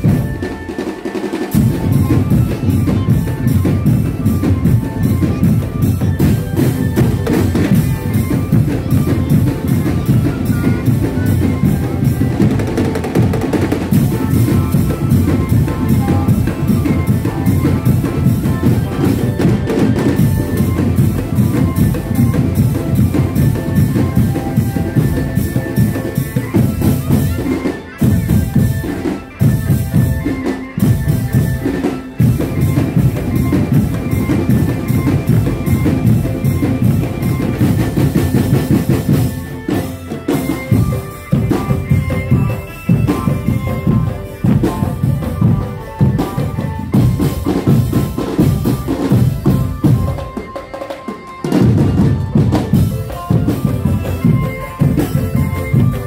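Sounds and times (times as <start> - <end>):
drum band playing: 0.0 - 56.0.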